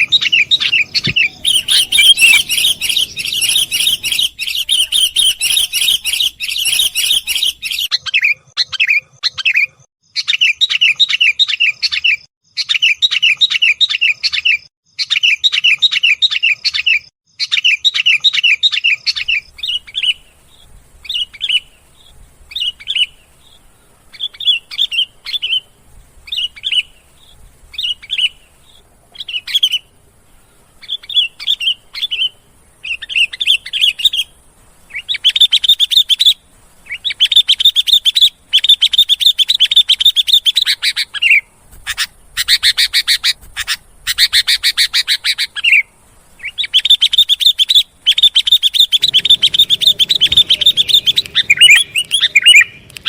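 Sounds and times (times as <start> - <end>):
bulbul chirping: 0.0 - 12.0, 17.4 - 53.0.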